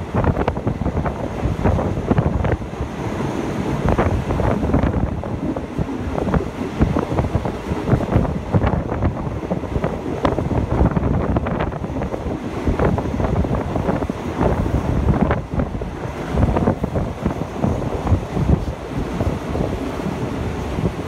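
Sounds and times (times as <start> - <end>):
train carriage clattering: 0.0 - 21.0
wind rushing over microphone: 0.0 - 21.0.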